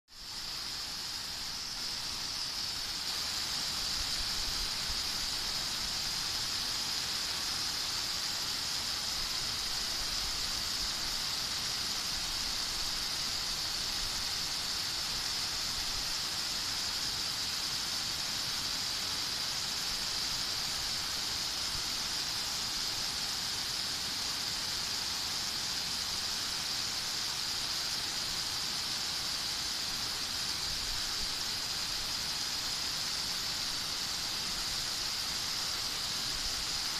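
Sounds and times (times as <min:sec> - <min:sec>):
steady rain hissing: 0:00.1 - 0:36.9.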